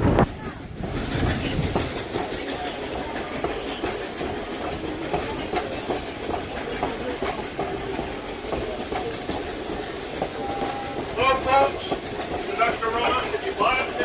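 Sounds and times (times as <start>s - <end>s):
train rumbling: 0.0s - 14.0s
wheels clattering over rail joints: 0.2s - 14.0s.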